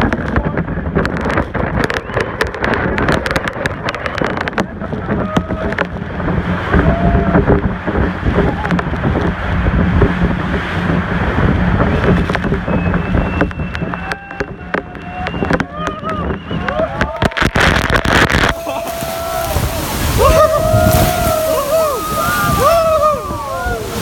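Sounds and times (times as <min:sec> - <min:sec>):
motorboat running: 0:00.0 - 0:24.0
rushing water: 0:00.0 - 0:24.0
sharp clicks and splashes: 0:00.0 - 0:24.0
wind buffeting microphone: 0:00.0 - 0:24.0.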